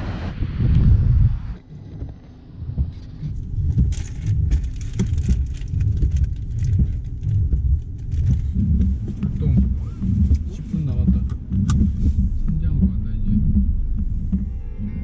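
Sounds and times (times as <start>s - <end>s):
low uneven rumble: 0.0s - 15.0s
wind on microphone: 0.0s - 15.0s
raindrops ticking on car roof: 1.8s - 15.0s.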